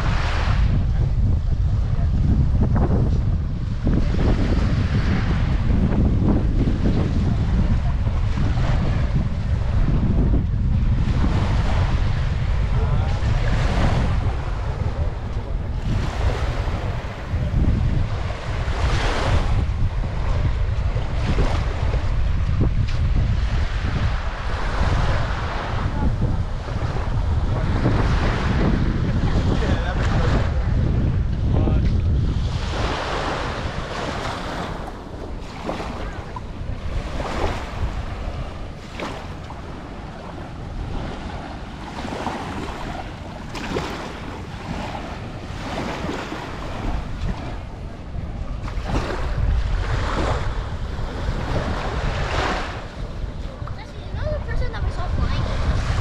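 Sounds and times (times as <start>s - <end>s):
small waves washing on sand: 0.0s - 56.0s
wind buffeting microphone: 0.0s - 56.0s.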